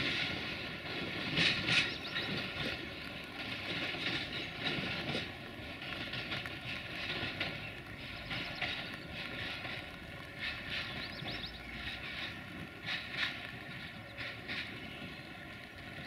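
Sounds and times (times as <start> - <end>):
train wheels clacking: 0.0 - 16.0.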